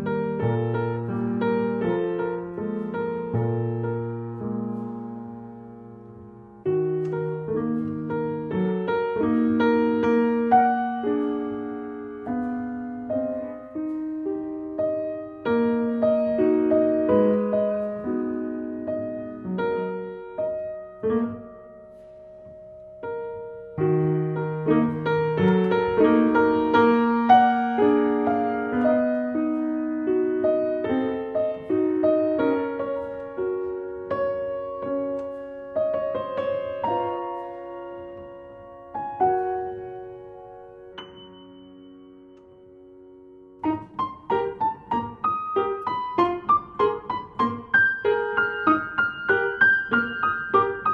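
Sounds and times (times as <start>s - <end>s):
piano melody: 0.0s - 50.9s.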